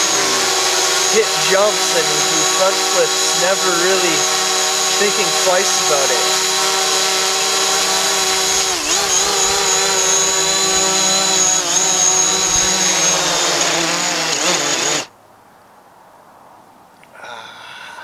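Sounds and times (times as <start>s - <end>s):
quadcopter drone whine: 0.0s - 15.1s.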